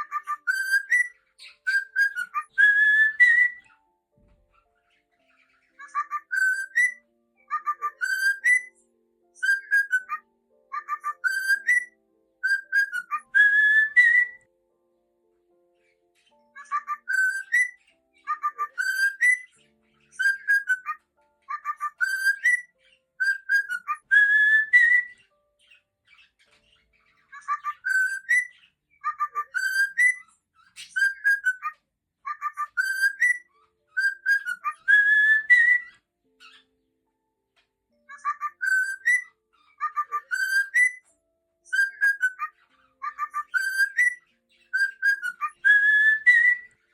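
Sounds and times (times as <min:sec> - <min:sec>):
cockatiel whistling a song: 0:00.0 - 0:14.5, 0:15.8 - 0:36.7, 0:37.9 - 0:46.9.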